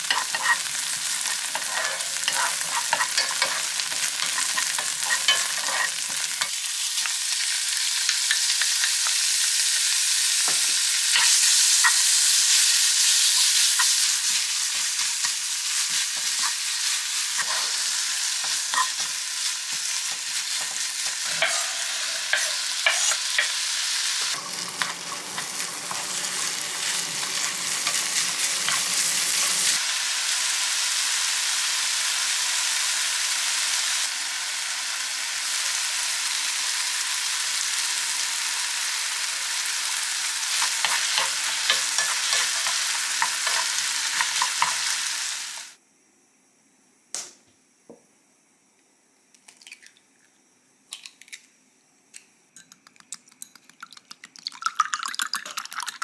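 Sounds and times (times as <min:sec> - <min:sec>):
food sizzling in frying pan: 0:00.0 - 0:45.8.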